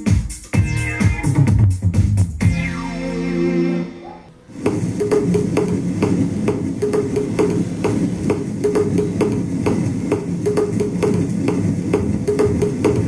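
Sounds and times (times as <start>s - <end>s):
percussive music over loudspeakers: 0.0s - 3.2s, 4.6s - 13.0s.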